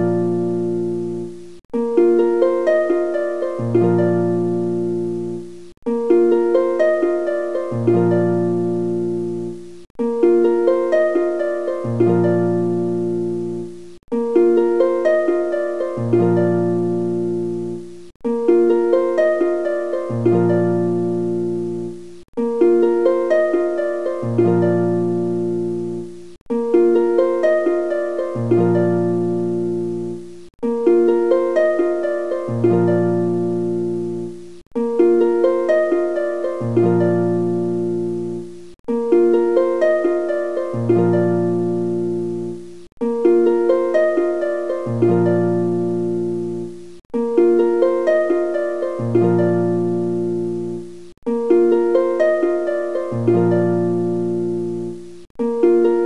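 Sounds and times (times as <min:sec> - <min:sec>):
plucked-string tune: 0:00.0 - 0:56.0.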